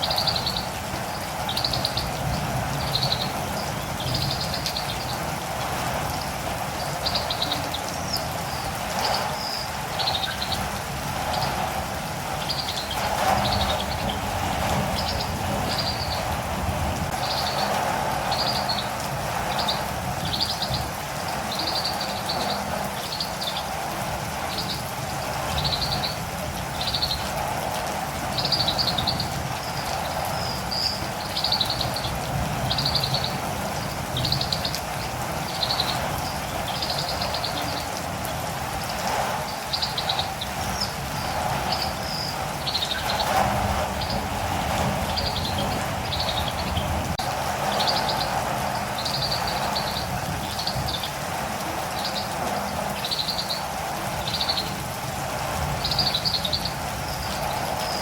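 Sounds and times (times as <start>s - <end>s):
birds high chirps: 0.0s - 58.0s
steady rain: 0.0s - 58.0s.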